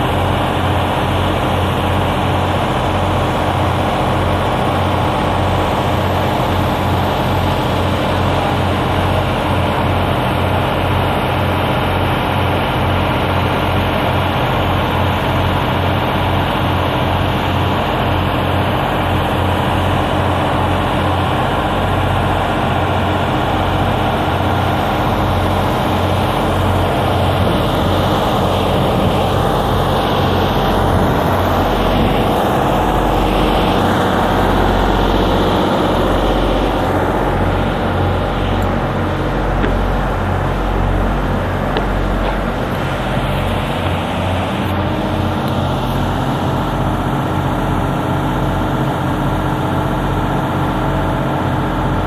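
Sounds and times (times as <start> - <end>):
generator droning: 0.0 - 52.0.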